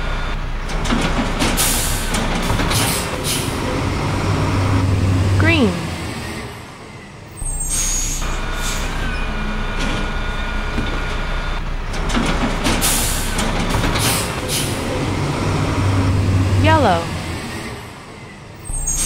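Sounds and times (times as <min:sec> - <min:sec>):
diesel engine rumble: 0:00.0 - 0:19.0.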